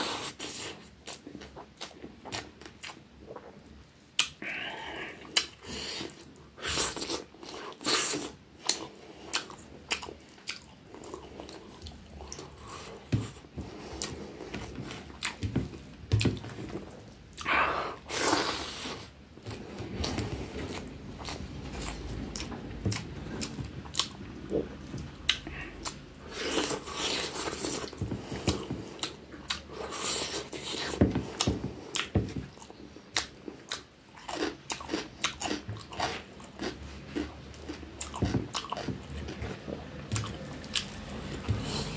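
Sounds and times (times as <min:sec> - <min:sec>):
person chewing with wet smacks: 0:00.0 - 0:41.9.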